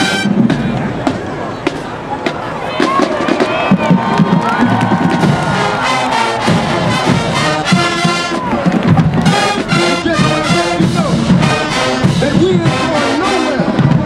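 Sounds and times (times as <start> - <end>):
marching band brass: 0.0 - 14.0
steady drum beat: 0.0 - 14.0.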